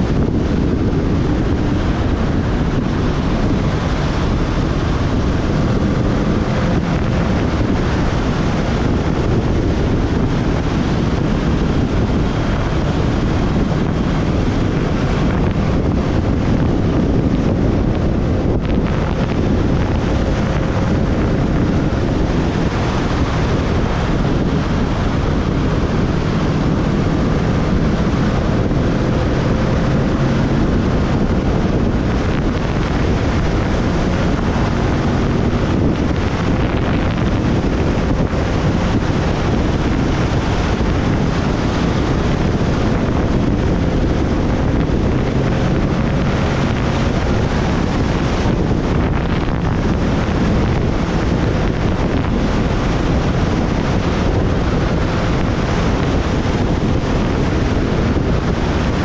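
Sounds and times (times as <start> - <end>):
motorcycle engine droning: 0.0 - 59.0
wind buffeting microphone: 0.0 - 59.0.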